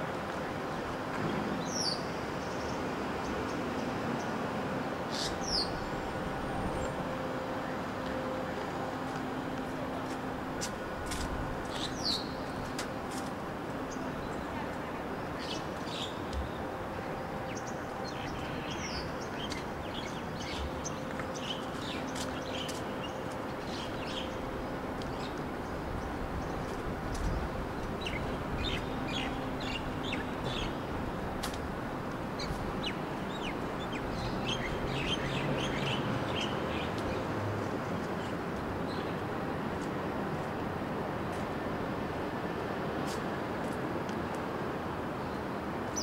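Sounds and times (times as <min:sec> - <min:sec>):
low hum of city traffic: 0:00.0 - 0:46.0.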